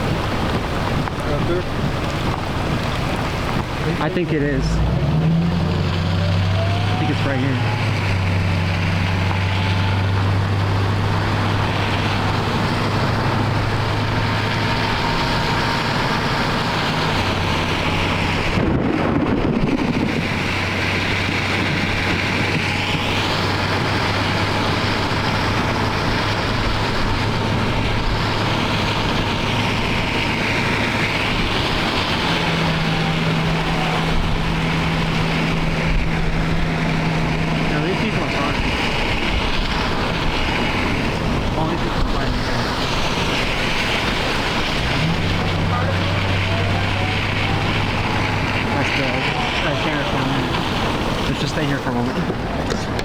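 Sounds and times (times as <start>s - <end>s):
rain: 0.0s - 53.0s
vehicle hum: 0.0s - 53.0s
wind noise: 0.0s - 53.0s.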